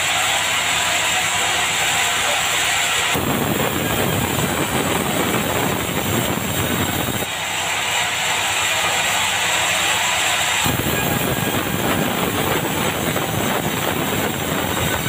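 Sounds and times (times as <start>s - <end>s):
band saw hissing and whining: 0.0s - 15.0s.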